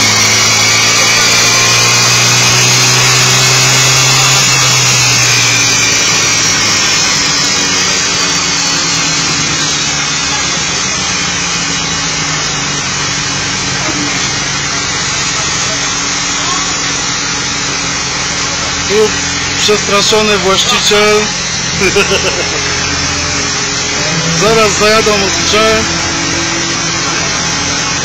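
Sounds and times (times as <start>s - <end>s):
high whine falling in pitch: 0.0s - 13.4s, 17.5s - 28.0s
motorcycle engine running: 0.0s - 28.0s.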